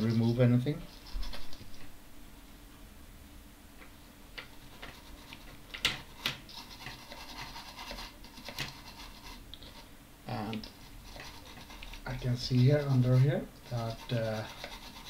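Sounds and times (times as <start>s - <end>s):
brush scrubbing circuit board: 0.0s - 1.7s, 4.4s - 15.0s.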